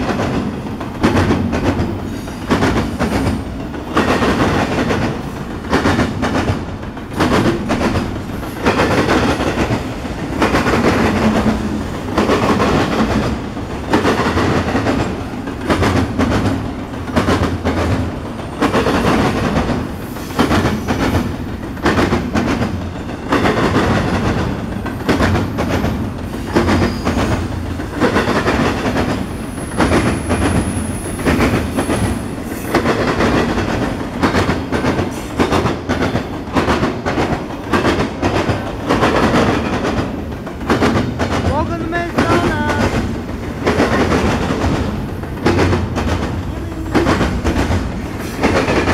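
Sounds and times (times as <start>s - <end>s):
freight train rumble: 0.0s - 48.9s
wheels clacking over rail joints: 0.0s - 48.9s.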